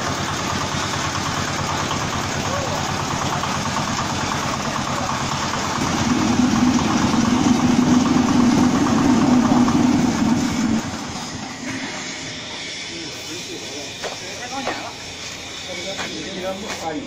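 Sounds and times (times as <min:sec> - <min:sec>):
small diesel engine running: 0:00.0 - 0:17.0.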